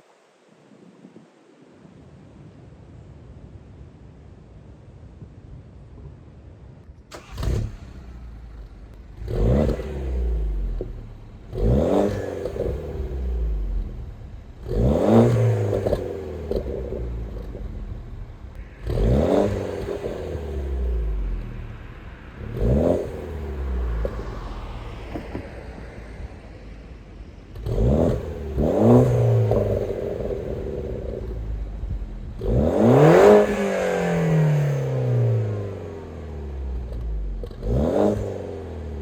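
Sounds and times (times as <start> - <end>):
car engine revving: 7.1 - 39.0.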